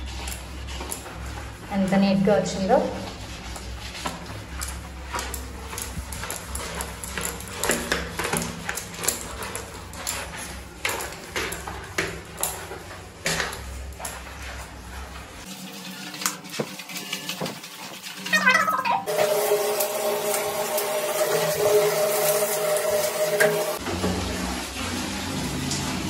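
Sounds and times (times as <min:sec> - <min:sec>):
water splashing on tiles: 0:00.0 - 0:26.0.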